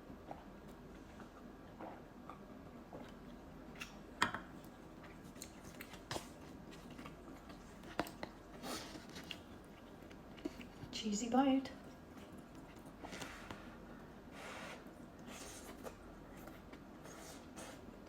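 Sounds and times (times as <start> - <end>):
faint chewing: 0.2 - 10.9, 11.8 - 18.0.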